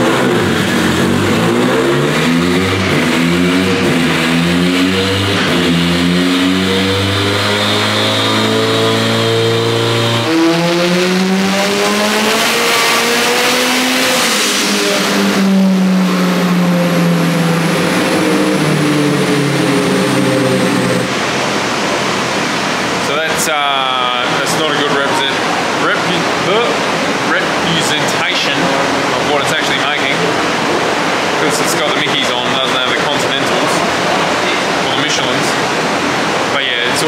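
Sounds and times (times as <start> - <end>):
turbocharged car engine revving: 0.0 - 37.0.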